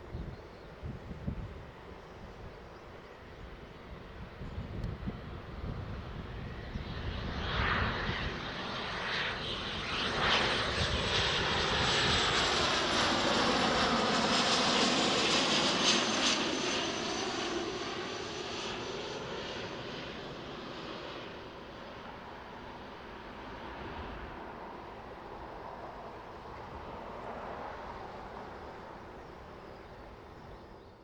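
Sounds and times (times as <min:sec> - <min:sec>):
jet engines passing with high whine: 0:00.0 - 0:31.0.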